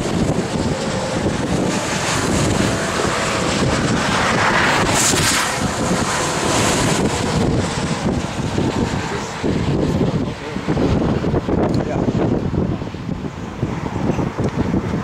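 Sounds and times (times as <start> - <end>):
trucks passing on highway: 0.0 - 15.0
wind buffeting microphone: 0.0 - 15.0.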